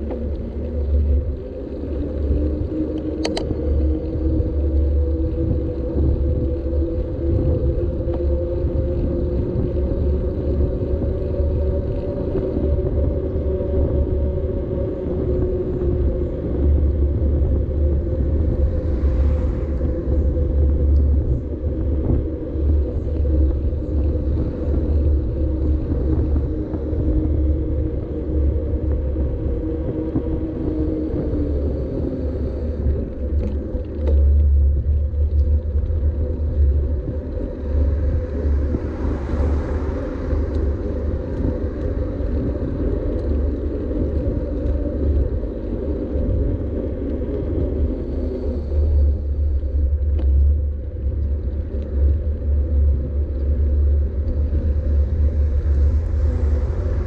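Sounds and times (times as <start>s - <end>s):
humming tone sliding lower: 0.0s - 57.0s
tyre noise on wet asphalt: 0.0s - 57.0s
wind rumbling on microphone: 0.0s - 57.0s.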